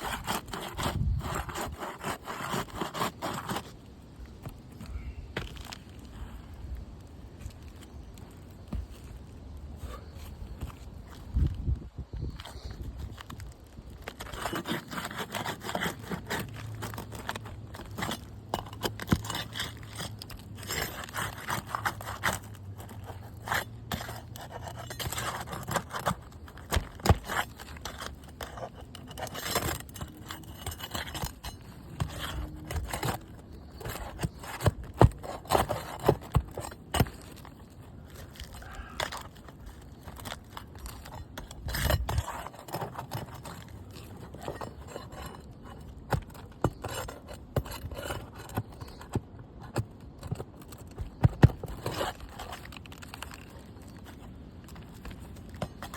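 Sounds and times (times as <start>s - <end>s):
hand tool scraping under shingles: 0.0s - 6.7s, 7.4s - 55.9s.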